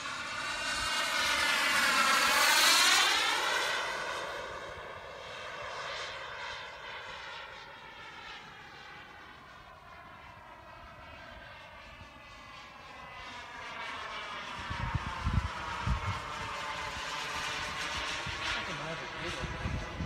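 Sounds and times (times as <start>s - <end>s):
jet turbine flying past: 0.0s - 20.0s.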